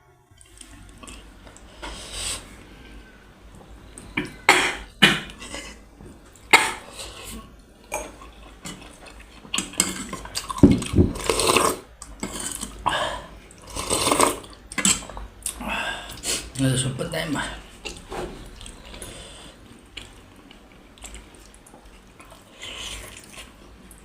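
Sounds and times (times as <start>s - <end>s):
person eating noisily: 0.4s - 2.5s, 3.9s - 16.6s, 17.7s - 24.0s.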